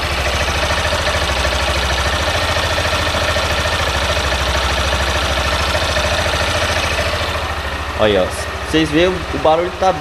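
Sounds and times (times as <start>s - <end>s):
faint engine ticking: 0.0s - 10.0s
motorcycle engine idling: 0.0s - 10.0s.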